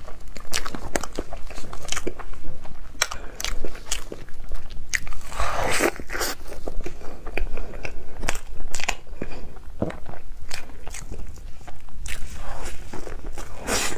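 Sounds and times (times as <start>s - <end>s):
chewing cake close up: 0.0s - 13.9s.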